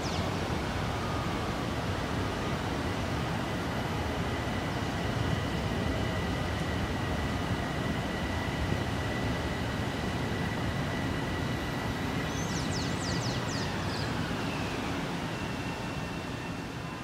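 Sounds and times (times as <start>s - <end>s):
low rumble of trains and traffic: 0.0s - 17.0s.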